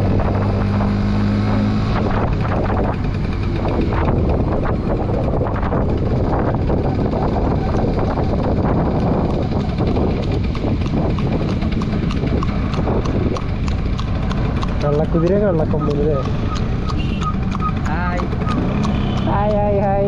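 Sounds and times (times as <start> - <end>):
wind on microphone: 0.0 - 20.0
horse hooves on tarmac: 1.9 - 20.0
scooter engine running: 2.0 - 20.0.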